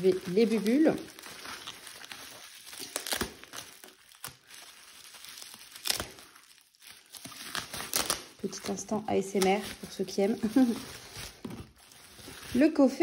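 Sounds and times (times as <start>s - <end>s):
bubble wrap crackles: 0.0s - 13.0s
bubble wrap crinkling: 0.0s - 13.0s.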